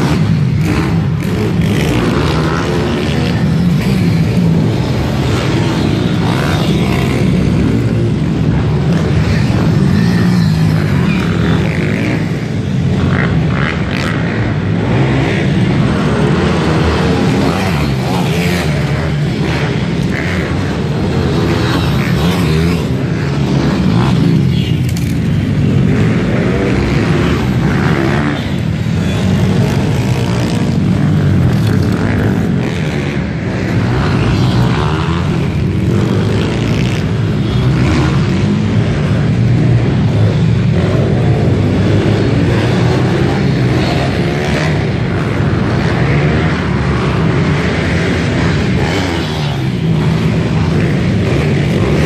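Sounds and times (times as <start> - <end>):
motorbike engines revving: 0.0 - 52.0.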